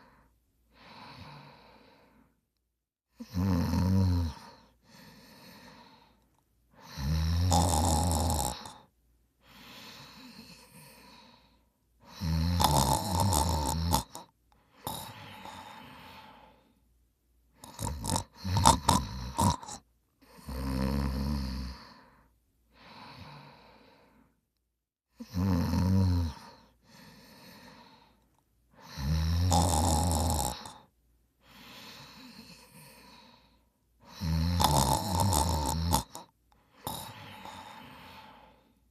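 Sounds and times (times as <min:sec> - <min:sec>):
person snoring: 0:00.0 - 0:02.3, 0:03.2 - 0:06.2, 0:06.8 - 0:16.7, 0:17.6 - 0:24.2, 0:25.2 - 0:28.2, 0:28.8 - 0:38.8.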